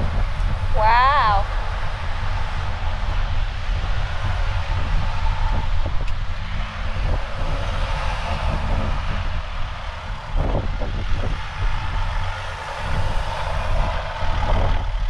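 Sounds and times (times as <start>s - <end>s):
wind rumbling on microphone: 0.0s - 15.0s
van engine under load: 1.4s - 15.0s.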